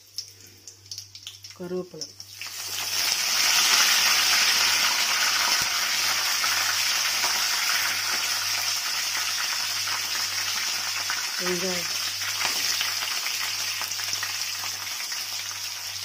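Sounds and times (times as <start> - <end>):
leaves and chillies sizzling in oil: 1.2 - 16.0.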